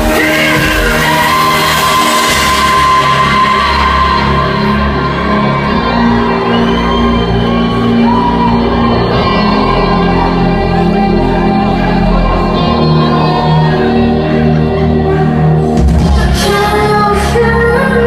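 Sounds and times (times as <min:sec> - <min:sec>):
live rock band with vocals: 0:00.0 - 0:18.0.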